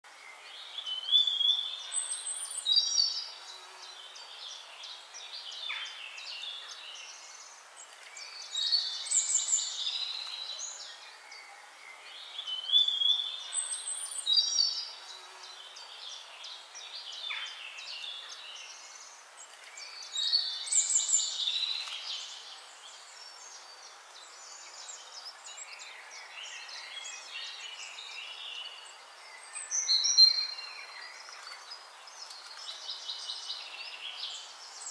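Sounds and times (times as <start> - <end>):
faint hiss: 0.1 - 34.9
birds twittering and chirping: 0.4 - 34.9.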